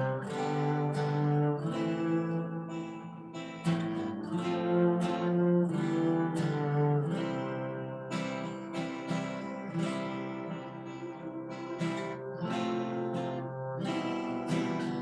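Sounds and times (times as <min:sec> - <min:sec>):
strummed chords over sustained notes: 0:00.0 - 0:15.0.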